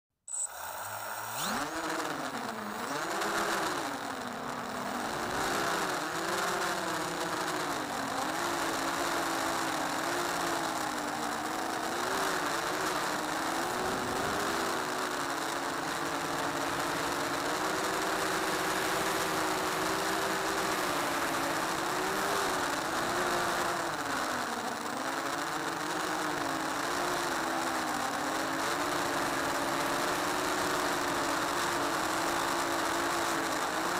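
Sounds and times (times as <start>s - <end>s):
drone motors buzzing whine: 0.3s - 33.9s.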